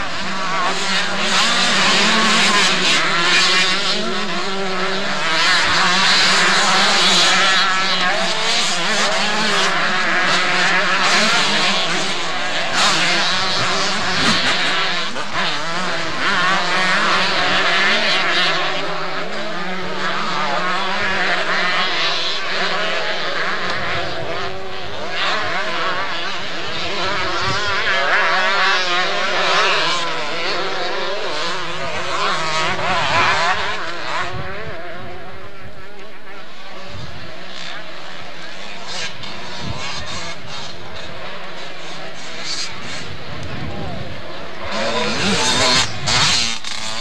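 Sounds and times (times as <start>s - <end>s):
motocross bike engines racing: 0.0s - 47.0s.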